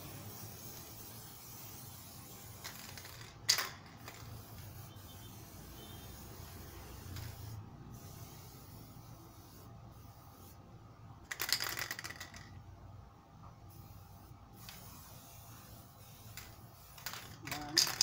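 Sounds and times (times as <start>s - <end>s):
spray paint can spraying: 0.0s - 10.6s, 11.3s - 12.5s, 13.7s - 18.0s.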